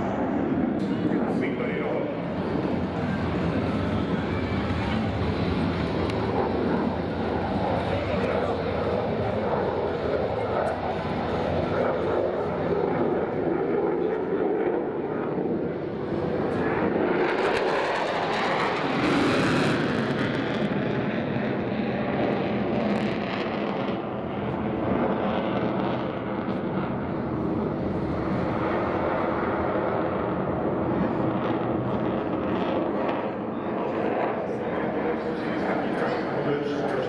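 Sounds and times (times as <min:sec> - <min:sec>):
jet engine rushing overhead: 0:00.0 - 0:37.0.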